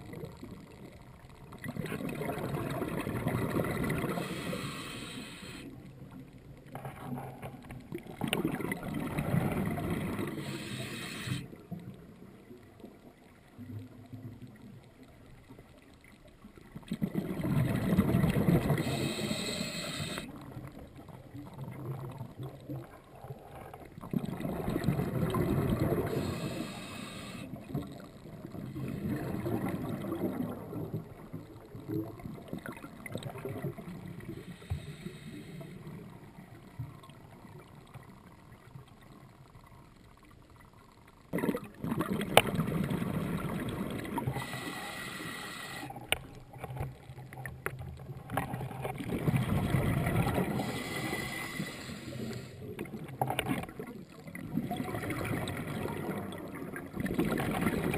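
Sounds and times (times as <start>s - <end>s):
scuba regulator bubbles gurgling: 0.0s - 39.8s, 40.5s - 57.9s.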